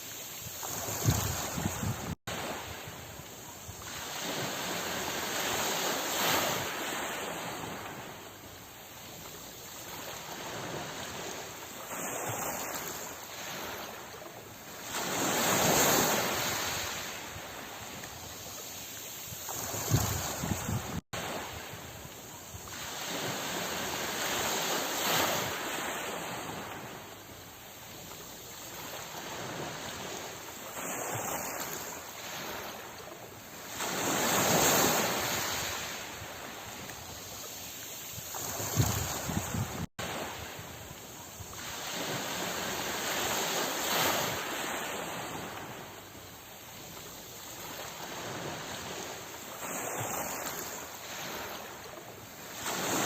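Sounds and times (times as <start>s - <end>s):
ocean waves breaking: 0.0s - 53.0s.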